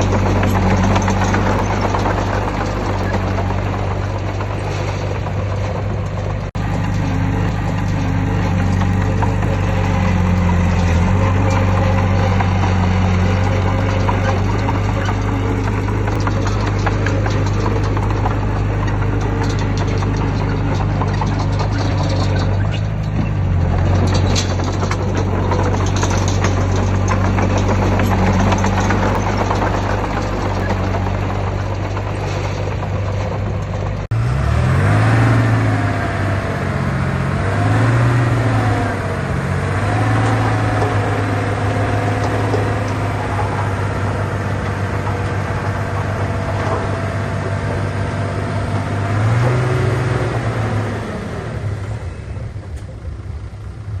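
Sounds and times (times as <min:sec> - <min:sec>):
engine revving under load: 0:00.0 - 0:53.1
heavy diesel engine running: 0:00.0 - 0:54.0.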